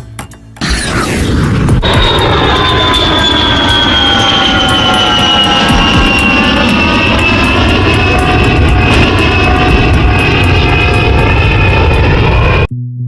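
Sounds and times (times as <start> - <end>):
aircraft engine passing: 0.6 - 12.7.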